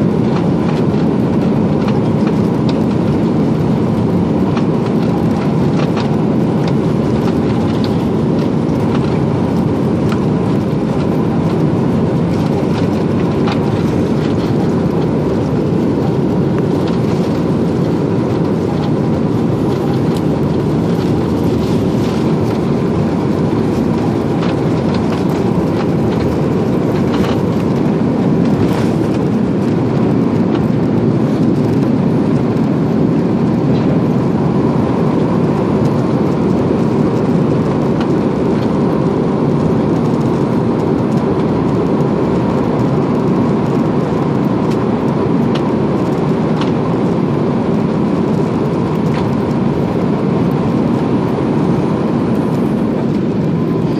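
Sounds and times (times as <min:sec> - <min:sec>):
faint engine whine: 0:00.0 - 0:53.9
jet engines roaring: 0:00.0 - 0:53.9.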